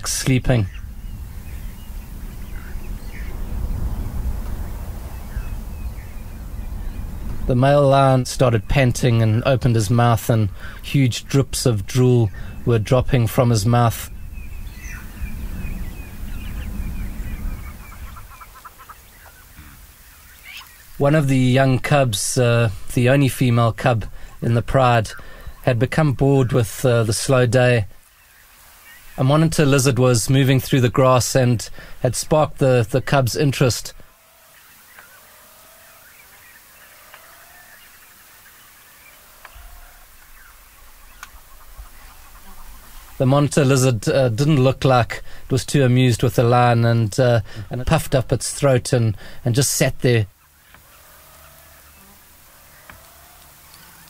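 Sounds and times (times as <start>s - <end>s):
bird chirping: 0.0s - 22.0s, 28.0s - 31.4s, 32.7s - 47.9s, 50.3s - 54.0s.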